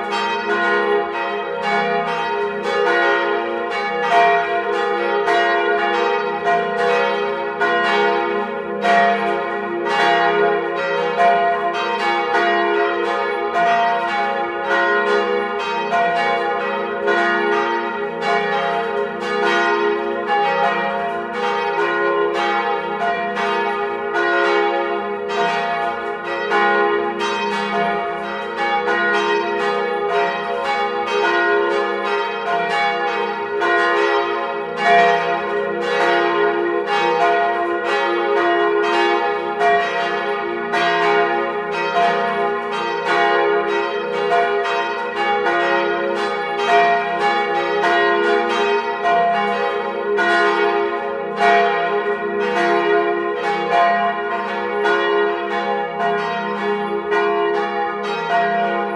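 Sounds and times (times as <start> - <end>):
church bells pealing: 0.0 - 58.9.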